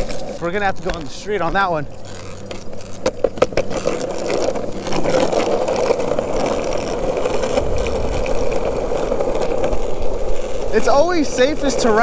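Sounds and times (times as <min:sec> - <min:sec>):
skateboard wheels rolling: 0:00.0 - 0:12.0.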